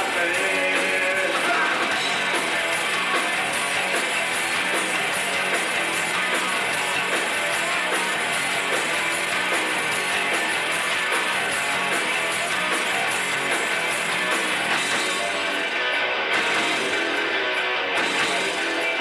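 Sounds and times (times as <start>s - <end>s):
drum kit: 0.0s - 19.0s
electric guitars strummed: 0.0s - 19.0s.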